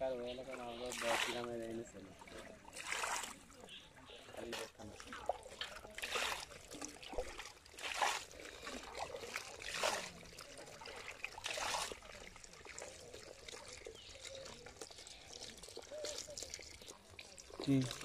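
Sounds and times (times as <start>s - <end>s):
low water trickle: 0.0s - 18.0s
water splashing and pouring: 0.0s - 18.0s.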